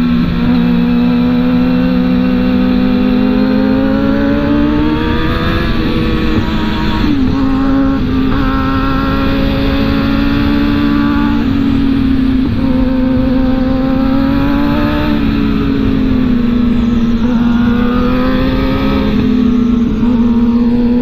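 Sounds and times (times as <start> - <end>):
motorcycle engine at high revs: 0.0 - 21.0
wind rushing over microphone: 0.0 - 21.0.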